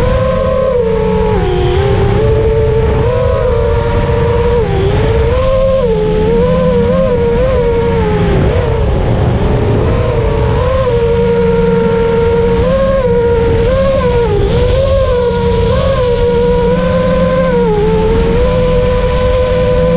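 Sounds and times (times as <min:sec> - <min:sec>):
drone motors whining: 0:00.0 - 0:19.9
wind on microphone: 0:00.0 - 0:19.9.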